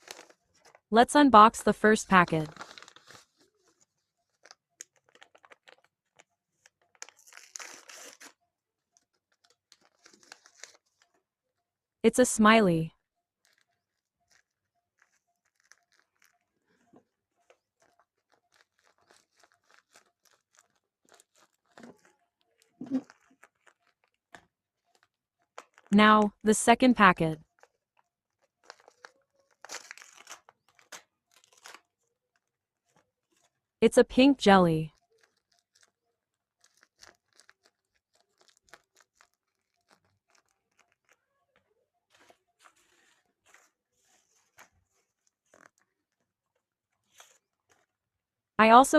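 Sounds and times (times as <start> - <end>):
plastic packet crinkling: 0.0 - 0.8, 2.4 - 8.4, 9.0 - 11.2, 13.4 - 25.9, 27.6 - 33.5, 35.0 - 48.0.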